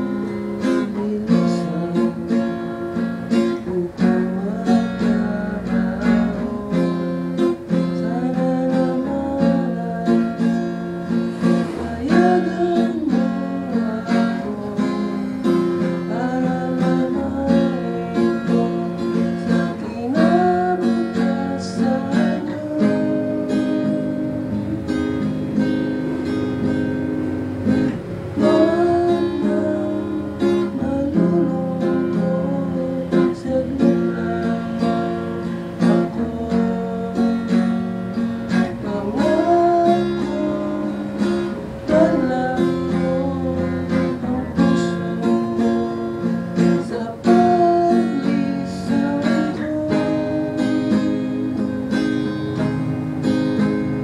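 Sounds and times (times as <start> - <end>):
man singing: 0.0 - 26.2, 27.9 - 52.7
acoustic guitar strumming: 0.0 - 54.0.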